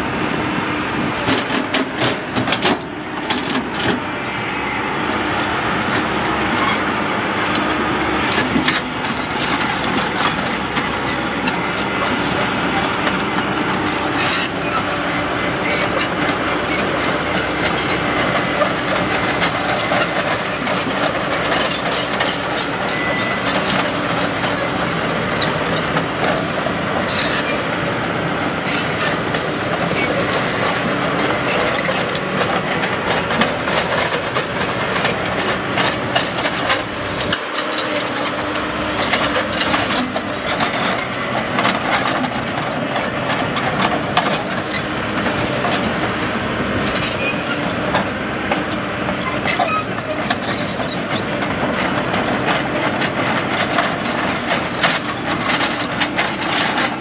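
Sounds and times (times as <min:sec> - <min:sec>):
excavator diesel engine: 0:00.0 - 0:57.0
hydraulics working: 0:00.0 - 0:57.0.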